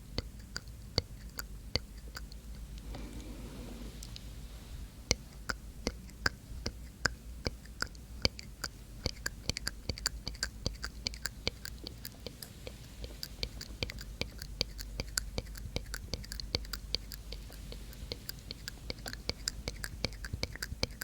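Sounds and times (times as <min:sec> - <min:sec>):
wet mouth and tongue clicks: 0:00.1 - 0:02.7, 0:05.1 - 0:21.0.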